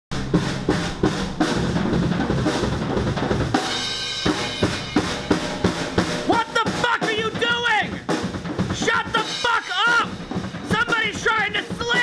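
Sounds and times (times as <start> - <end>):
higher tones: 0.1 - 8.0, 8.6 - 10.9
drum kit rock beat: 0.1 - 12.0
pitched instruments: 0.1 - 12.0.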